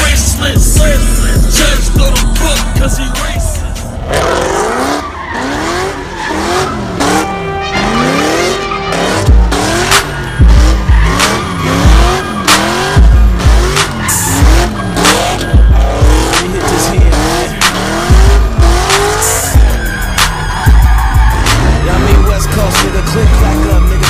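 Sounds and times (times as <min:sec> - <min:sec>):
car engine revving: 0:00.0 - 0:24.0
hip-hop music with heavy bass: 0:00.0 - 0:24.0
tyres squealing: 0:02.7 - 0:24.0.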